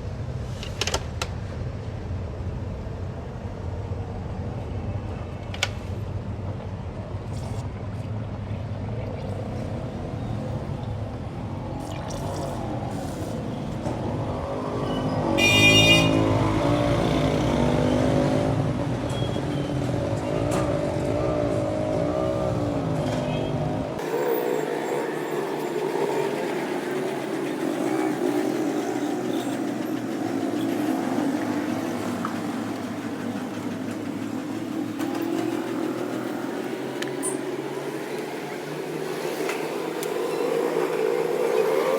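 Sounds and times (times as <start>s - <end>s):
vehicles going by: 0.0s - 41.9s.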